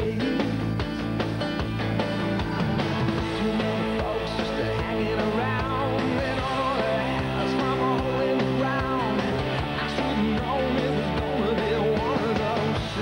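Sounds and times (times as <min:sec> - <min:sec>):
rock music with guitar: 0:00.0 - 0:13.0.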